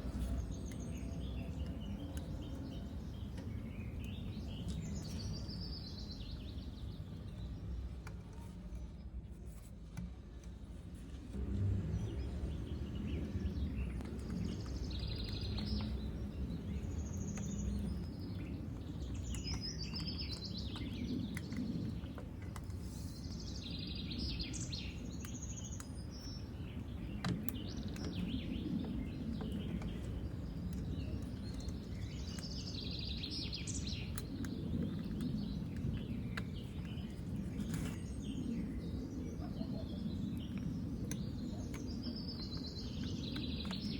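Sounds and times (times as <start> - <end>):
birds chirping: 0.0 - 43.9
low background rumble: 0.0 - 43.9.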